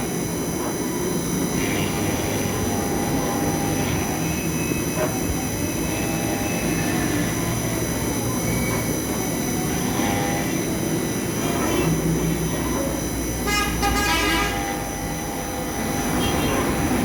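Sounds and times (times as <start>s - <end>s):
engraving machine spindle whine: 0.0s - 17.0s.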